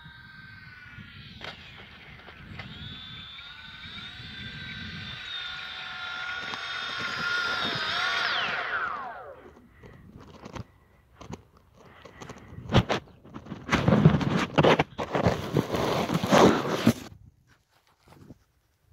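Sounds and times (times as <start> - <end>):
propeller motors whining: 0.0 - 17.0.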